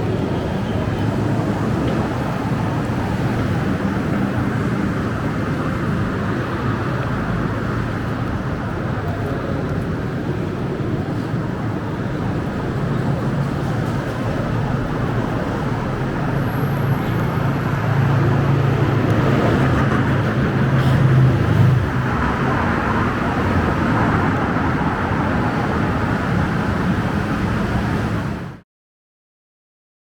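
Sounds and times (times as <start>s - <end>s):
traffic engine hum: 0.0s - 28.6s.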